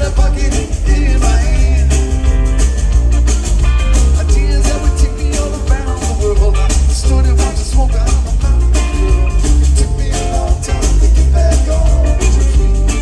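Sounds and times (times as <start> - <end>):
man singing lead: 0.0 - 2.5, 3.9 - 13.0
bass guitar: 0.0 - 13.0
drums: 0.0 - 13.0
electric guitar: 0.0 - 13.0.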